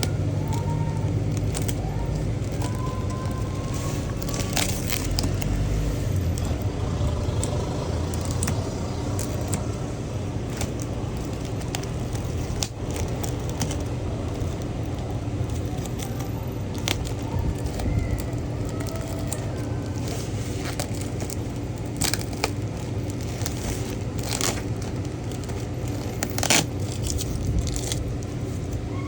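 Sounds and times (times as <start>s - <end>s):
plastic packaging crackling: 0.0s - 29.0s
steady low rumble: 0.0s - 29.0s.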